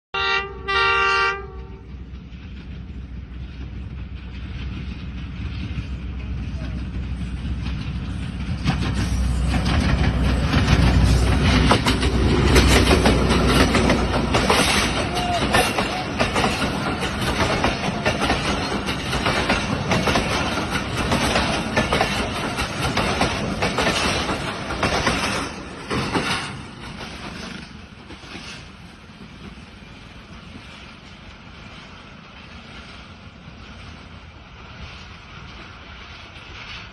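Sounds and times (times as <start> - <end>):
train rumble: 0.2 - 36.9
train wheels clattering on rails: 1.8 - 36.9.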